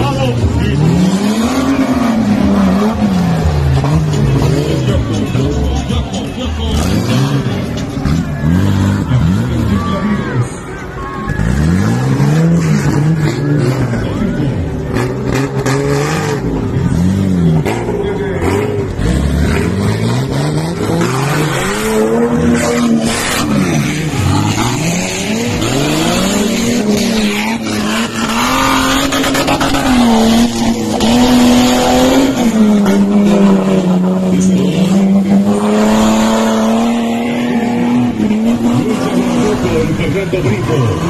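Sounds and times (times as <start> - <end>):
off-road vehicle engine revving: 0.0 - 41.0.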